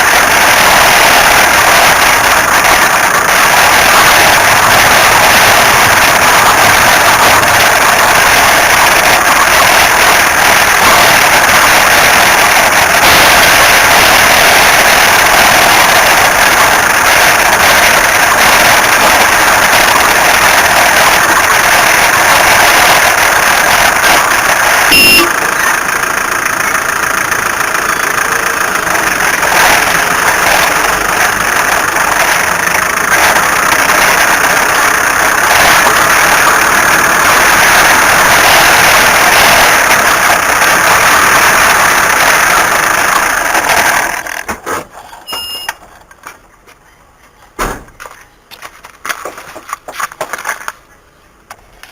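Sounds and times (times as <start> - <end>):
car engine running rough: 0.0 - 45.2.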